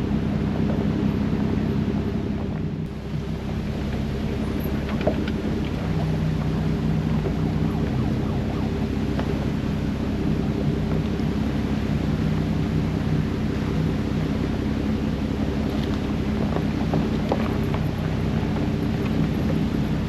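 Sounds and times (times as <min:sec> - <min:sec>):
jeep engine running: 0:00.0 - 0:20.0.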